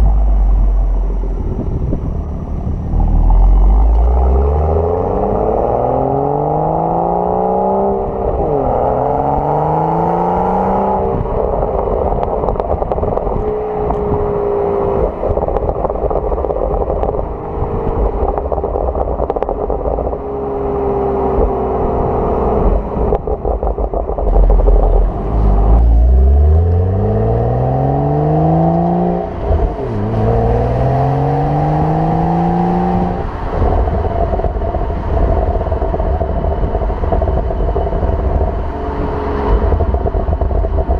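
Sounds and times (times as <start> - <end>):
exhaust crackles and pops: 0.0 - 9.5, 11.1 - 40.9
car engine revving: 0.0 - 40.9.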